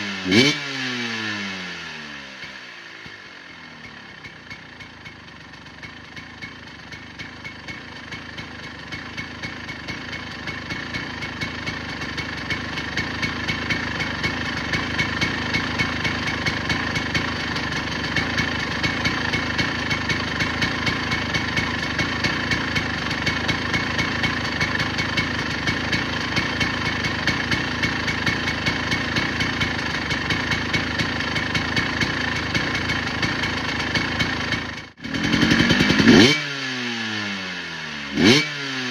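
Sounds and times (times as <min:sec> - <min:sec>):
dirt bike engine idling: 0:00.0 - 0:38.9.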